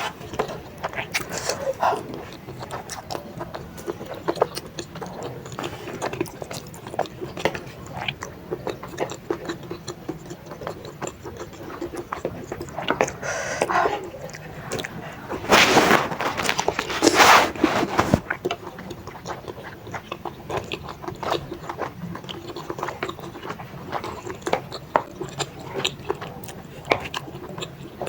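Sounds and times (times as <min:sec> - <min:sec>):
wet chewing and mouth clicks: 0:00.0 - 0:28.0.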